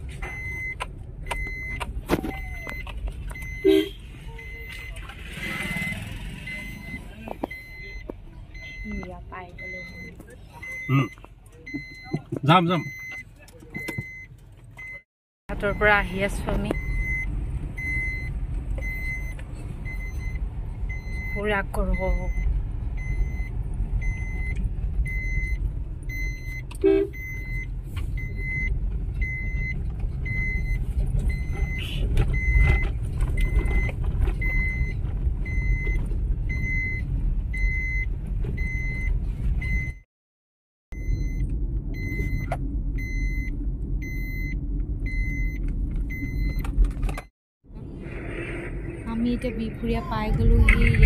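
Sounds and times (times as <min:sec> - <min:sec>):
road and engine rumble in a car: 0:00.0 - 0:40.1, 0:40.9 - 0:51.0
car warning chime beeping: 0:00.2 - 0:40.1, 0:41.0 - 0:47.3.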